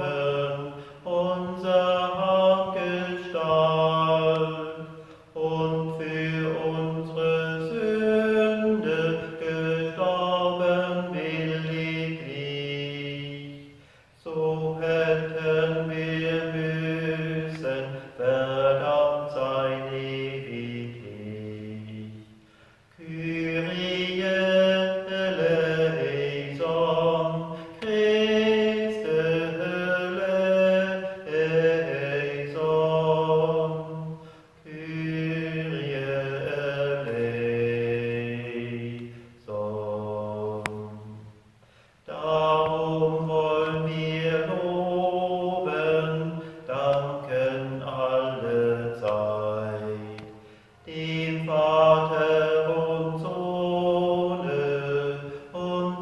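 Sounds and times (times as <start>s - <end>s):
man chanting unaccompanied: 0.0s - 22.2s, 23.0s - 41.2s, 42.1s - 56.0s.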